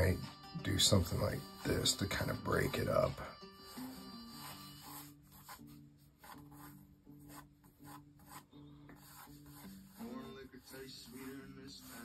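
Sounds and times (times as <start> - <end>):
faint background music: 0.0 - 12.0
pencil scratching on paper: 0.9 - 12.0.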